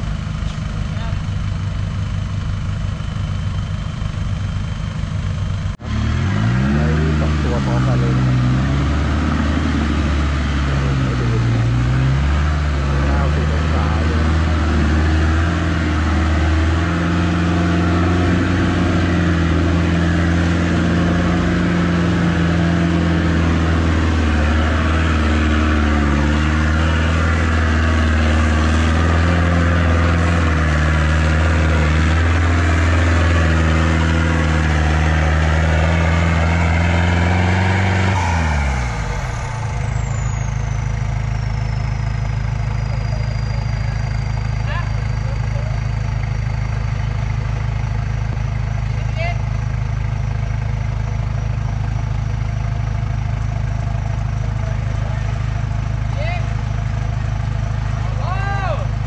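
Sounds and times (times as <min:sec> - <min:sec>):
off-road vehicle engine under load: 0:00.0 - 0:59.0.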